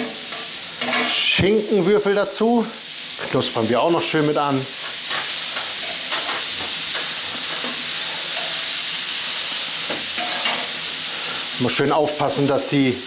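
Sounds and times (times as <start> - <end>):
bacon and onions sizzling on griddle: 0.0 - 13.0.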